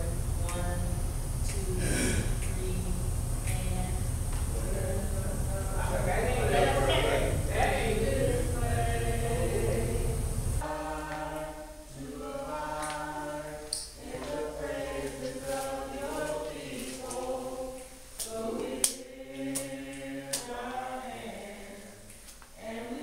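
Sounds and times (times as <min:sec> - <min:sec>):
choir singing unaccompanied: 0:01.5 - 0:23.0.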